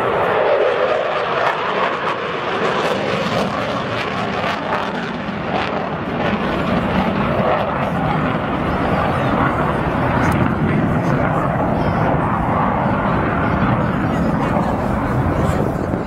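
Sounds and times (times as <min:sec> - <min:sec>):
jet roar with crackles: 0:00.0 - 0:16.0.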